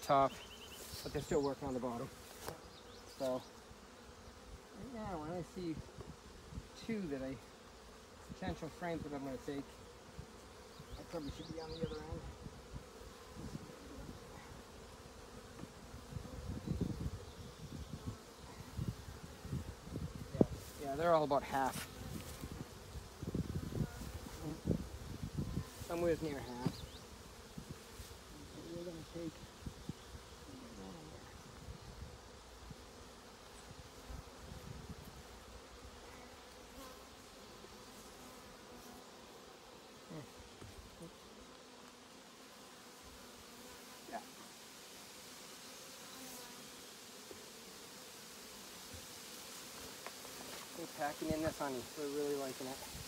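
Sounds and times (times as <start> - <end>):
honeybees buzzing: 0.0 - 53.0.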